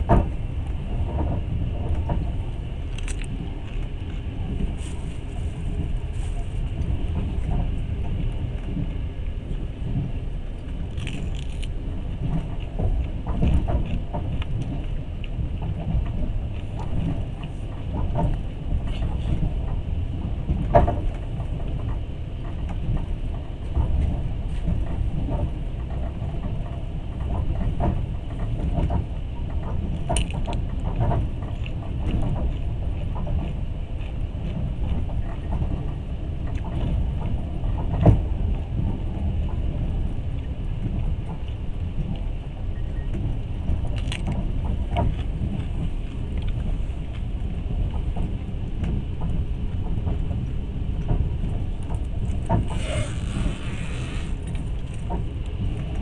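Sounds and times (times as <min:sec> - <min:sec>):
train rumbling on track: 0:00.0 - 0:56.0
clicks and rattles of carriage: 0:09.9 - 0:42.2, 0:43.0 - 0:56.0.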